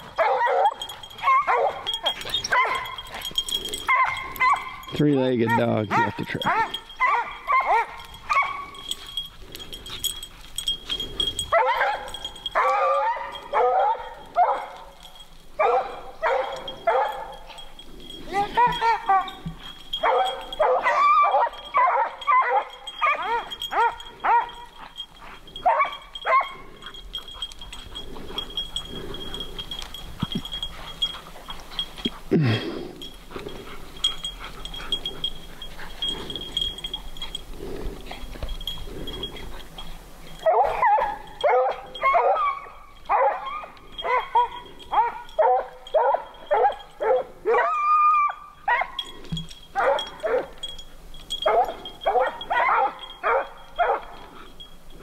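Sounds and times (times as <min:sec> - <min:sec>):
hounds baying: 0:00.0 - 0:55.0.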